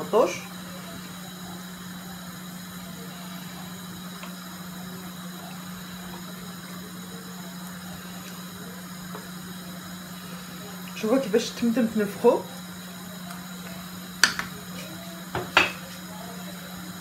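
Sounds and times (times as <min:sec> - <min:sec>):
broth bubbling in a pot: 0:00.0 - 0:17.0
steady low hum: 0:00.0 - 0:17.0.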